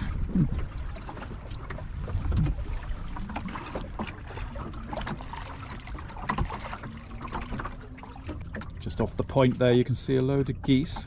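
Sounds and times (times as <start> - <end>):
water splashing against hull: 0.0 - 11.0.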